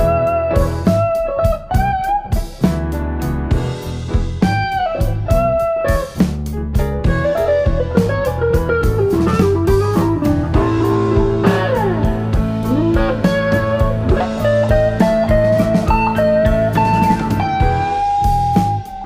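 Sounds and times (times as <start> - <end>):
guitar-led instrumental music: 0.0 - 19.0.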